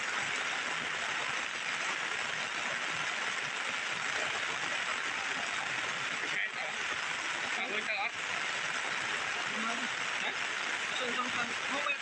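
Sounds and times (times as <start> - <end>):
heavy rain on plastic umbrella: 0.0 - 12.0
rain on wet ground: 0.0 - 12.0.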